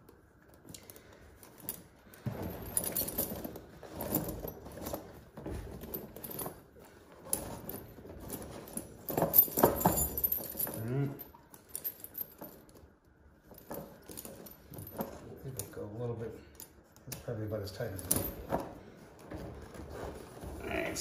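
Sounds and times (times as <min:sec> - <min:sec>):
steel chains clinking: 0:00.7 - 0:21.0.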